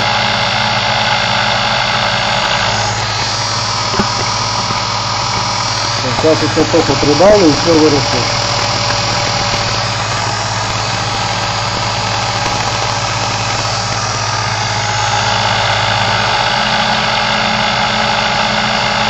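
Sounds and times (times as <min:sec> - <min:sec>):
electric motor humming and whining: 0:00.0 - 0:19.0.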